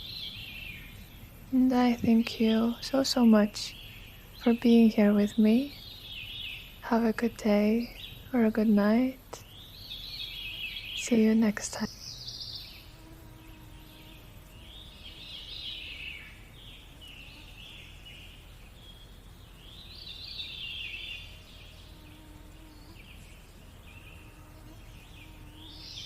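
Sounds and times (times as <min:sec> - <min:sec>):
birds singing and chirping: 0:00.0 - 0:26.0
faint steady hiss: 0:00.0 - 0:26.0.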